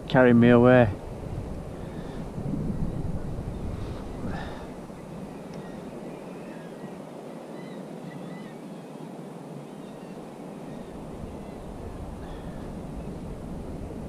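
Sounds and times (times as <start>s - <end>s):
wind: 0.0s - 14.0s
sea water washing around kayak: 0.8s - 14.0s.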